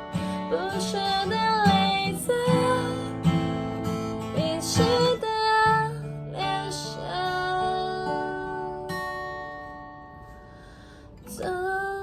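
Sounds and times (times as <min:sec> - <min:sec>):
woman singing: 0:00.0 - 0:09.7, 0:11.2 - 0:12.0
acoustic guitar playing: 0:00.0 - 0:12.0.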